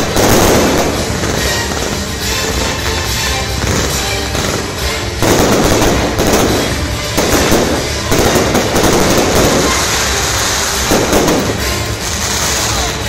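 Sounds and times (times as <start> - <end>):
fireworks bursting: 0.0 - 13.0
fireworks crackling: 0.0 - 13.0.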